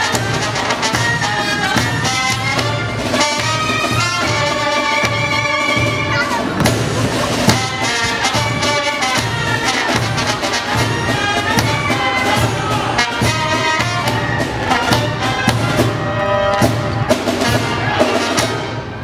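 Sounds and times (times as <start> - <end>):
steady drum beat: 0.0 - 18.7
brass band playing: 0.0 - 19.0.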